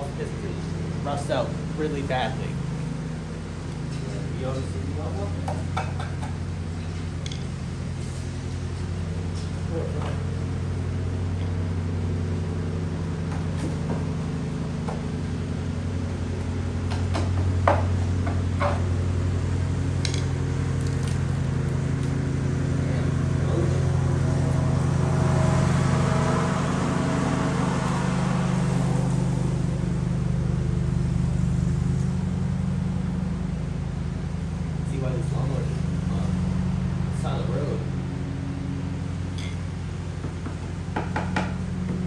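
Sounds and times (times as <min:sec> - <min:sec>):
small engine humming: 0:00.0 - 0:42.0.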